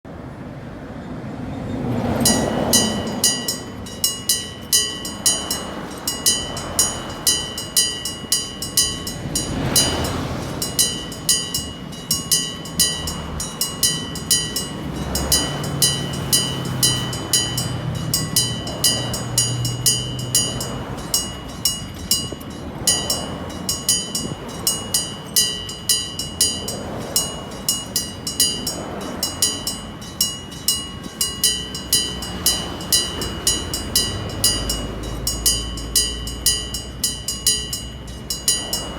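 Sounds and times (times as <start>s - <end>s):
passing vehicles: 0.1s - 38.9s
railway crossing bell ringing: 1.7s - 38.9s.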